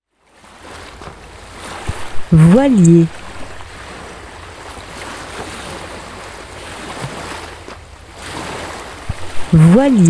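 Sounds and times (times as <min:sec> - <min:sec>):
wind: 0:00.0 - 0:10.0
sea waves washing: 0:00.4 - 0:10.0.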